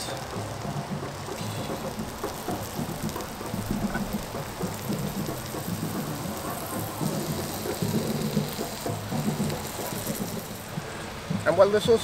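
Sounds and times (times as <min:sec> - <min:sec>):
stove low rumble: 0:00.0 - 0:11.5
food sizzling in a pan: 0:00.0 - 0:11.9.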